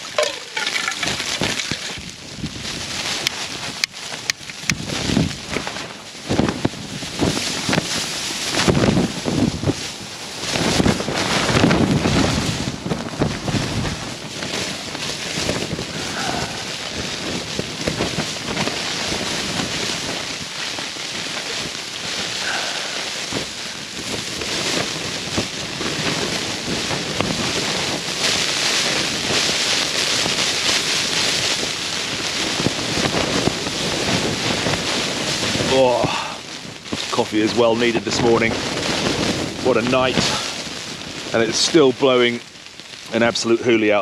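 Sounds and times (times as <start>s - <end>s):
tent fabric flapping and rattling: 0.0s - 42.4s
gusting wind: 0.0s - 44.0s
wind noise on microphone: 0.0s - 44.0s.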